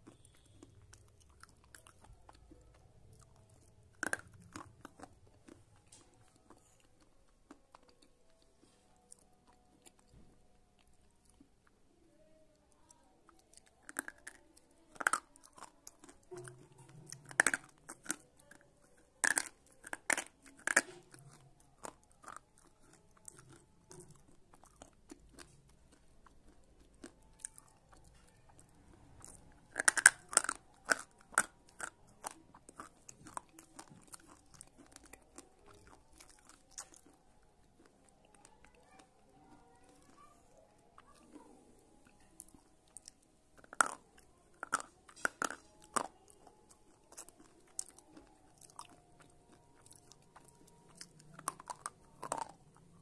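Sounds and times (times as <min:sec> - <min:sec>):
pencil being chewed with crunches: 0:00.0 - 0:53.0.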